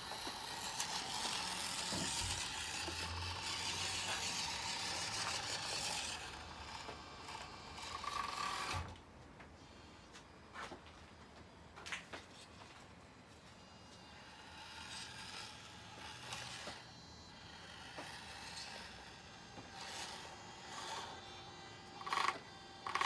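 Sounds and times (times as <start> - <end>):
small electric motor whirring: 0.0 - 9.0, 13.2 - 23.0.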